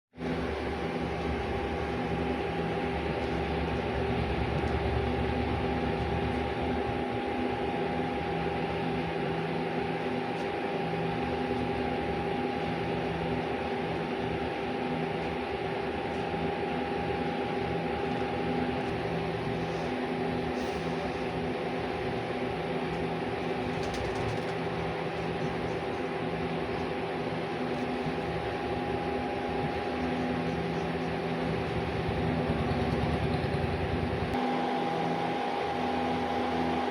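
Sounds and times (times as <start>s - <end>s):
steady mechanical hum: 0.2s - 36.9s.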